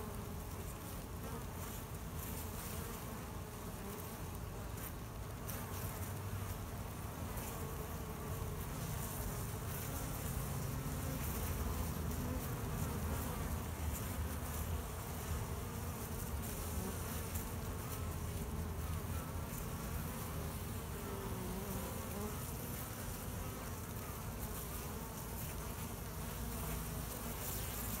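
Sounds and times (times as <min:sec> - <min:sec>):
bees humming: 0:00.0 - 0:28.0
single bee buzzing past: 0:00.0 - 0:28.0.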